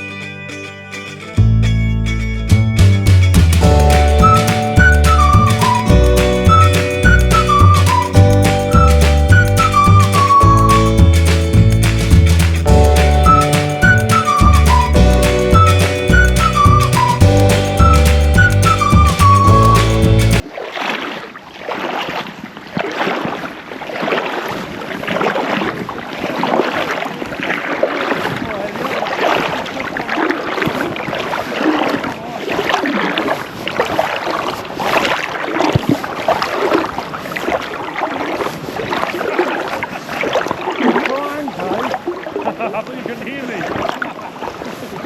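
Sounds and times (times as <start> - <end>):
water splashing and babbling: 3.1 - 45.0.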